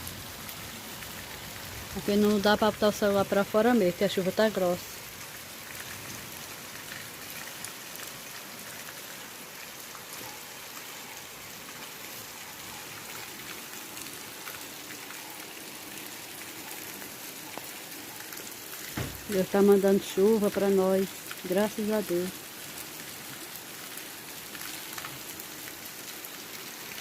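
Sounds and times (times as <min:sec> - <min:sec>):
heavy rain pouring: 0:00.0 - 0:27.0
raindrops ticking on surfaces: 0:00.0 - 0:27.0.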